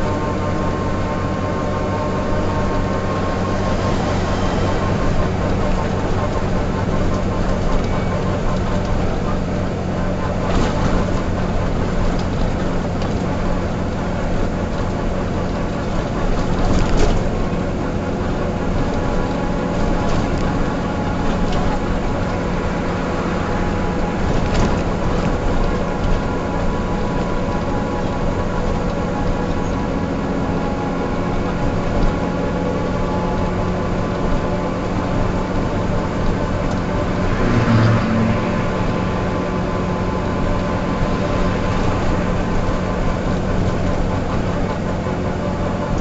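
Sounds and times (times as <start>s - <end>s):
bus diesel engine running: 0.0s - 46.0s.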